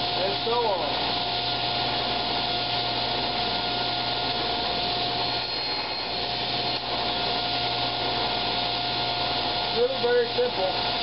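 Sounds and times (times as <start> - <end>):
table saw running: 0.0 - 11.0.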